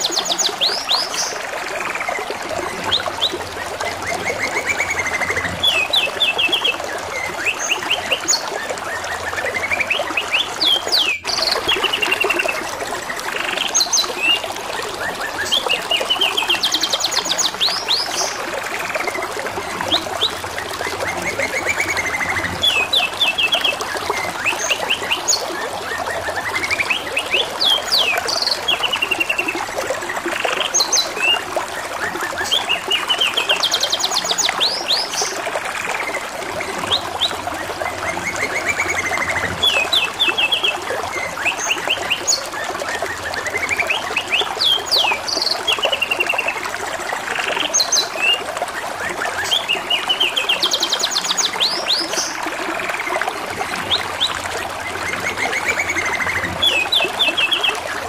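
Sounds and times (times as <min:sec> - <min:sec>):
running water trickling: 0:00.0 - 0:58.0.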